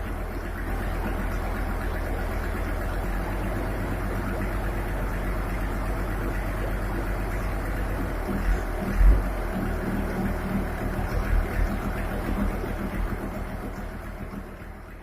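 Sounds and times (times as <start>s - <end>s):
diesel generator running: 0.0s - 15.0s.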